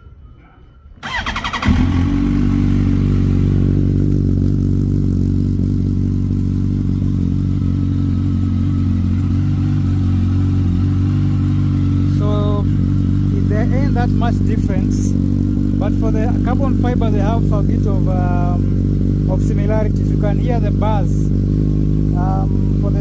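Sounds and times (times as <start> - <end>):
motorcycle engine idling: 1.0 - 23.0.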